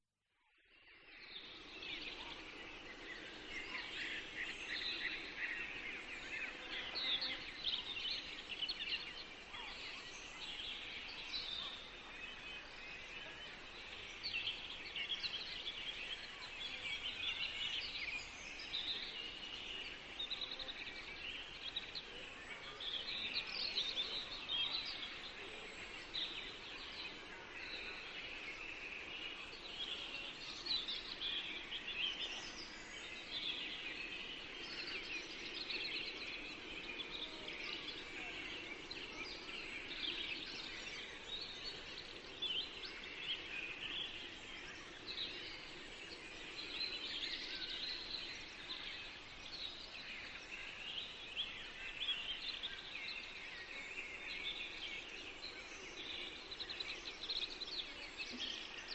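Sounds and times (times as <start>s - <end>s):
faint background hiss: 0.4s - 58.9s
songbirds chirping and trilling: 0.4s - 58.9s.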